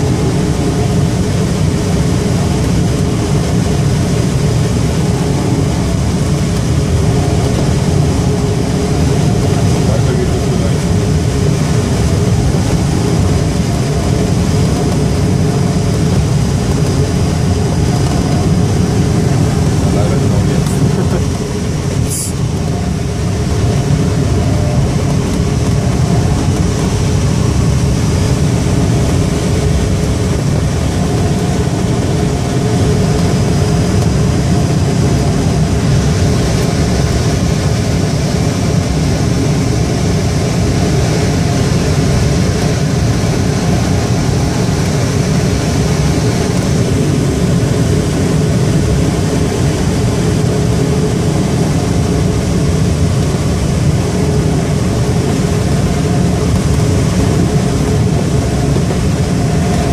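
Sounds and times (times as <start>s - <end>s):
rushing air buffeting microphone: 0.0s - 59.9s.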